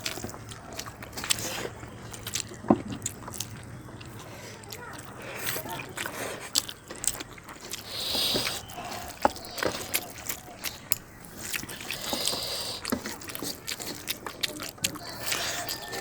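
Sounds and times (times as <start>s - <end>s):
crackly eating sounds: 0.0s - 16.0s
mouth clicks: 0.0s - 16.0s
wet chewing of food: 0.0s - 16.0s.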